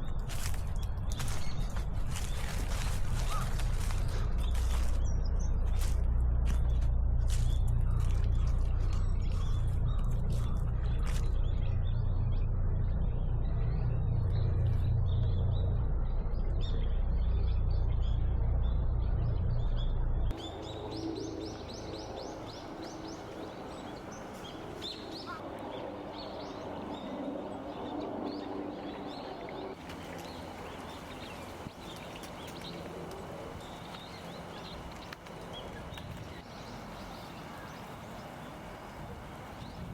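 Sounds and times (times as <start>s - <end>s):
heavy low rumble: 0.0s - 37.8s
small birds chirping: 0.0s - 39.9s.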